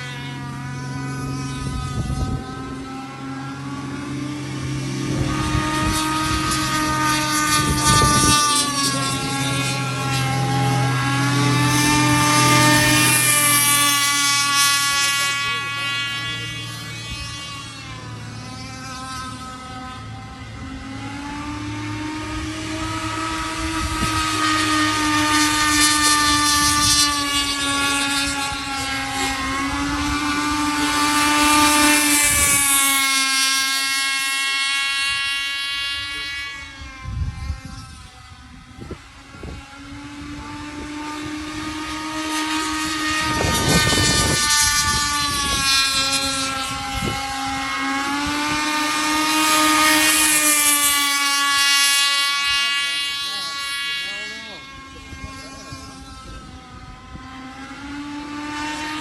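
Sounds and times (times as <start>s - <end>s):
model boat engine whine: 0.0s - 59.0s.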